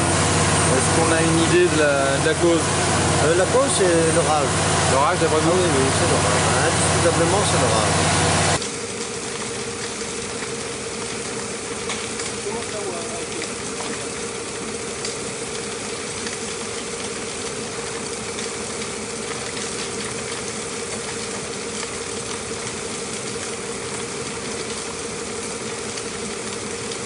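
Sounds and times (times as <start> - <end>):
engine humming steadily: 0.0 - 27.0.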